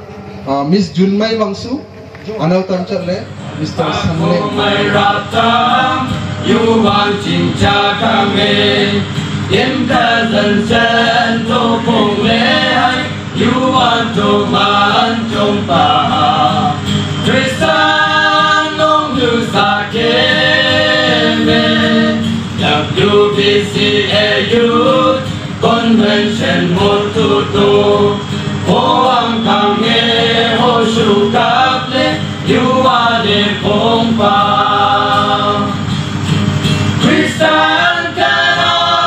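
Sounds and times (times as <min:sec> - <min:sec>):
men singing through pa: 0:03.6 - 0:39.0.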